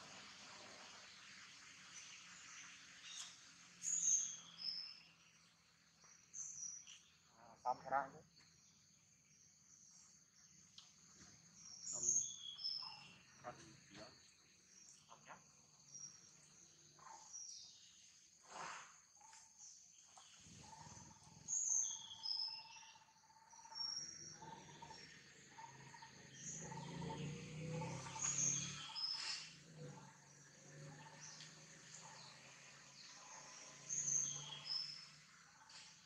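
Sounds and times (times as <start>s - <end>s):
birds chirping: 0.0s - 18.4s, 19.1s - 36.0s
insects calling: 0.0s - 36.0s.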